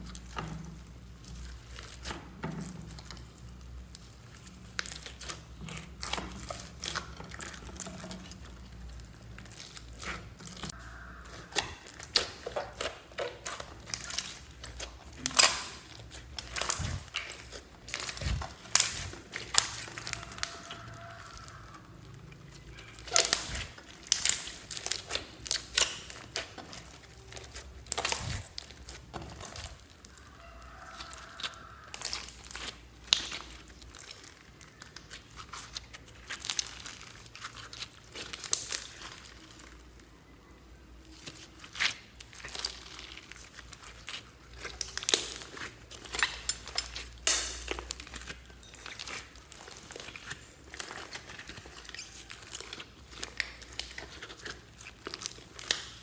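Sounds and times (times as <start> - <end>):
slime squeezed by hand crackling: 2.9 - 40.1, 40.9 - 56.0.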